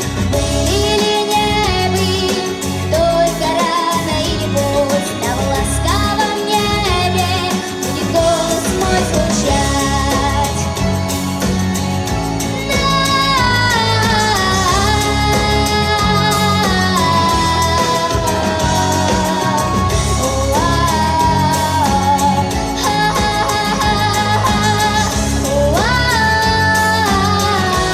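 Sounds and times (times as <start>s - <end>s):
backing track with bass line: 0.0s - 27.9s
person singing pop song: 0.0s - 27.9s.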